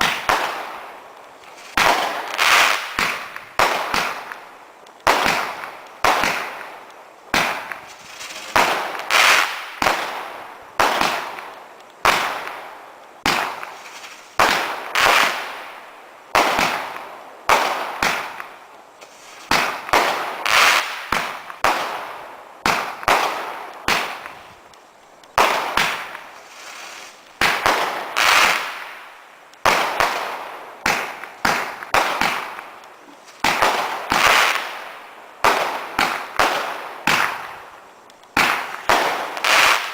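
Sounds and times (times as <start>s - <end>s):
firework bangs with hiss: 0.0s - 39.9s.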